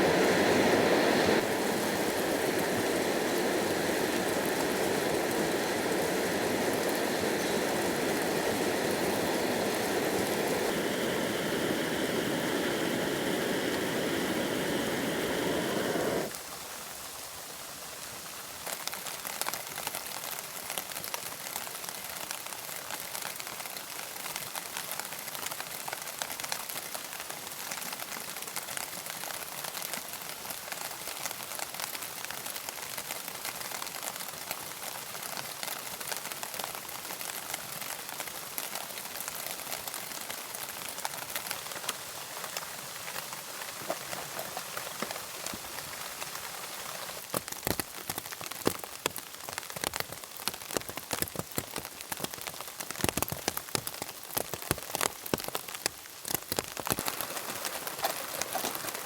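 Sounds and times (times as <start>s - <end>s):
rain drops striking a surface: 0.0s - 59.0s.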